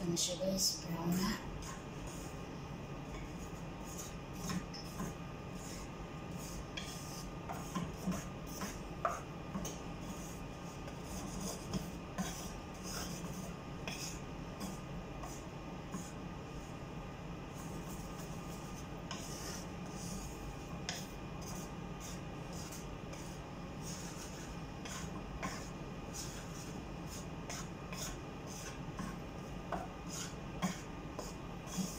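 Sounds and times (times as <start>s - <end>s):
steady low hum: 0.0s - 31.9s
spatula scraping flour in pan: 3.1s - 16.7s, 17.5s - 31.9s.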